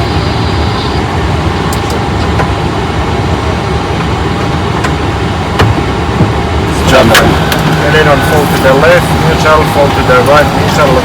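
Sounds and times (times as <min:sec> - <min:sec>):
faint steady whine: 0:00.0 - 0:11.0
jet engines idling: 0:00.0 - 0:11.0.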